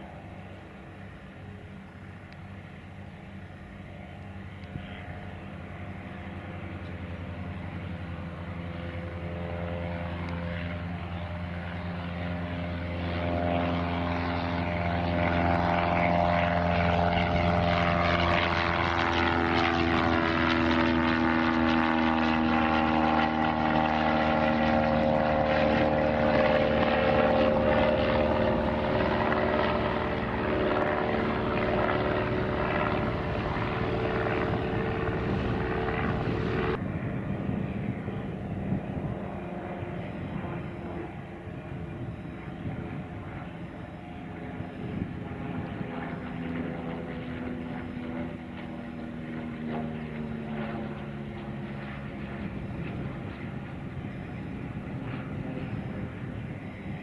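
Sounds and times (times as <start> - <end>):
propeller plane engine: 0.0 - 57.0.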